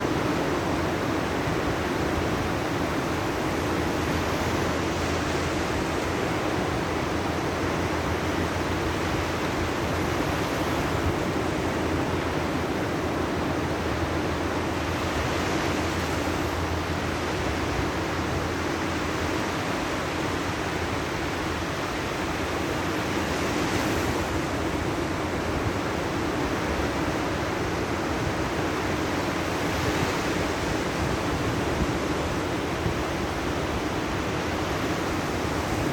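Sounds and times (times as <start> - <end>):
surf washing on shore: 0.0 - 35.9
wind on microphone: 0.0 - 35.9.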